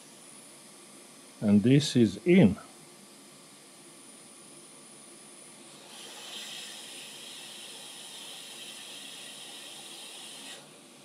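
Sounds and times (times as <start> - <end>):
hot air station hissing: 0.0 - 11.0.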